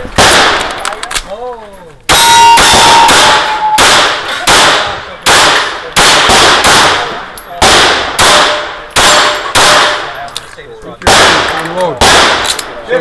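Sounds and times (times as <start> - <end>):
pistol shots: 0.1 - 1.0, 2.1 - 10.2, 11.0 - 12.8.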